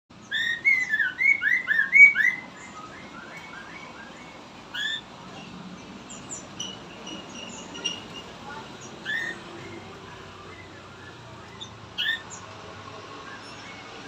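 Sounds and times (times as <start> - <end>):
bird singing whistled notes: 0.2 - 5.1, 6.1 - 12.5, 13.1 - 14.0.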